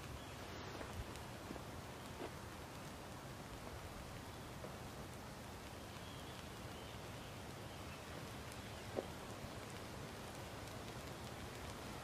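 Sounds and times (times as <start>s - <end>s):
burning wicks hissing: 0.0s - 12.0s.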